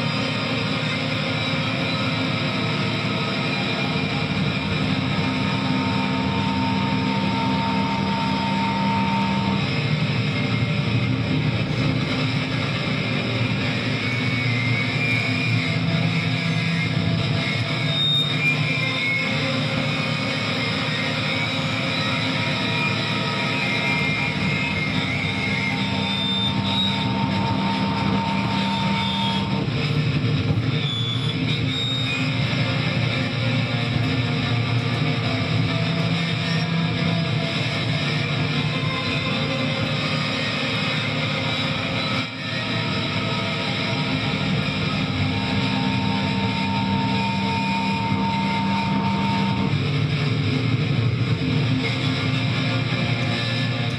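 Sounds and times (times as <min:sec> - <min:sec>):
distorted electric guitar drone: 0:00.0 - 0:53.9.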